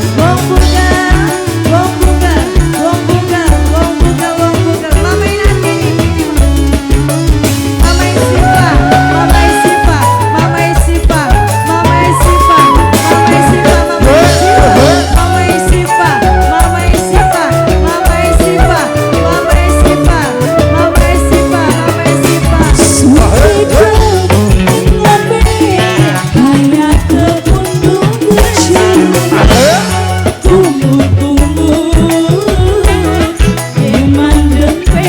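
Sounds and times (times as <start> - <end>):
live band music with drum beat: 0.0 - 35.0.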